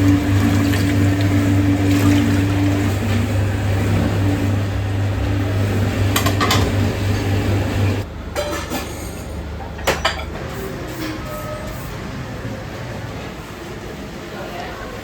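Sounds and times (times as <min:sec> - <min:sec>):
low machine hum: 0:00.0 - 0:14.8.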